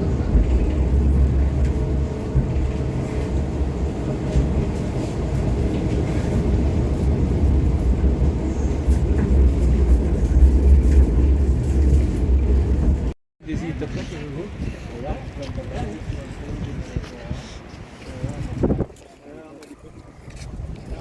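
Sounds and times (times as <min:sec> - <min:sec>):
rail vehicle rumbling: 0:00.0 - 0:17.3.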